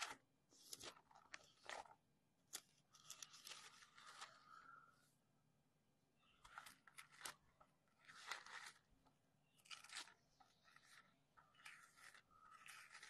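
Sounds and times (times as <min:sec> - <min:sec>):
thin pages rustling: 0:00.0 - 0:04.8, 0:06.3 - 0:08.9, 0:09.5 - 0:13.0.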